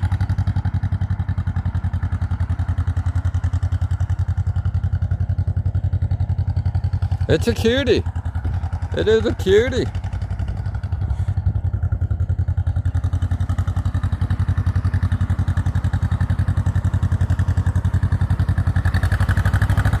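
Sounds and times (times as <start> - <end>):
tractor engine chugging: 0.0 - 20.0.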